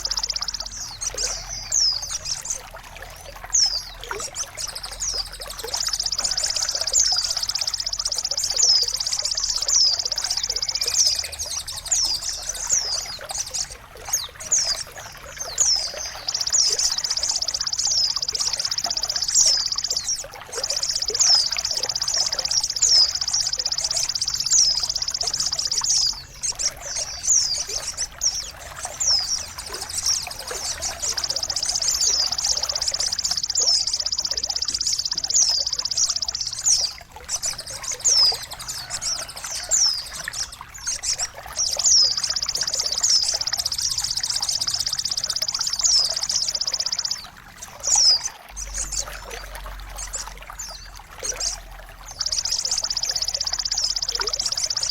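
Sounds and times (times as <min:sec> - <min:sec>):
songbird trilling song: 0:00.0 - 0:54.9
trickling water: 0:00.0 - 0:54.9.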